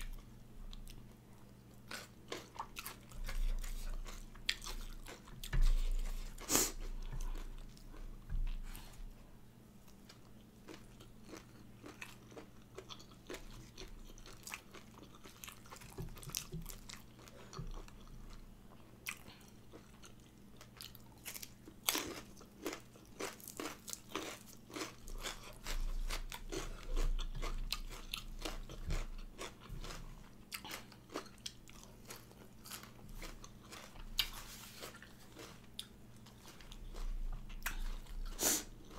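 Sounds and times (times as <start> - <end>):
crunchy chewing: 0.0 - 8.9, 9.8 - 38.9.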